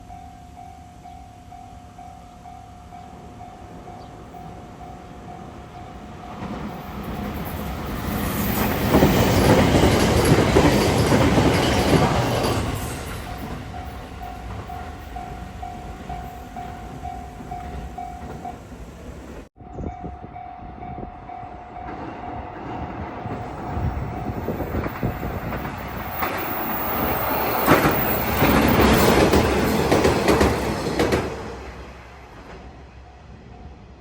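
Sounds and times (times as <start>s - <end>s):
train passing: 0.0s - 34.0s.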